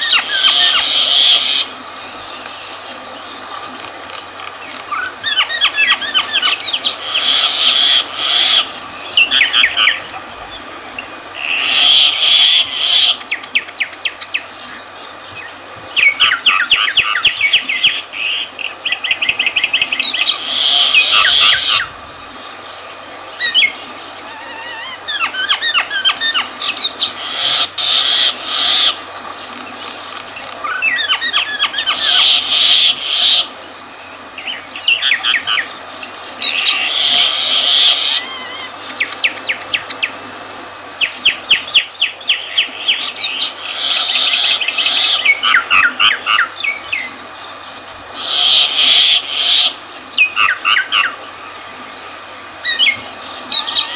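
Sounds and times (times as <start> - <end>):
myna calling: 0.0 - 1.9, 3.4 - 14.4, 16.0 - 22.5, 23.3 - 33.6, 34.4 - 40.2, 41.0 - 47.4, 48.1 - 51.3, 52.6 - 53.9.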